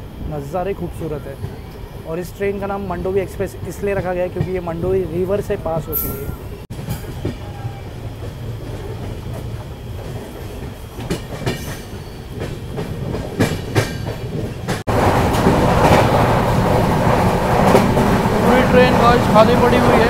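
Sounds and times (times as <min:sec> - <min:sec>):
train coach rumbling on track: 0:00.0 - 0:20.0
wheels clicking over rail joints: 0:03.0 - 0:20.0.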